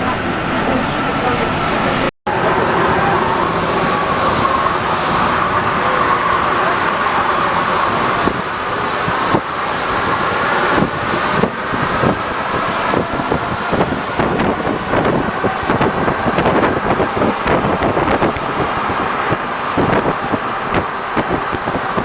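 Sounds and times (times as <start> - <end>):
metro train rolling: 0.0 - 22.0.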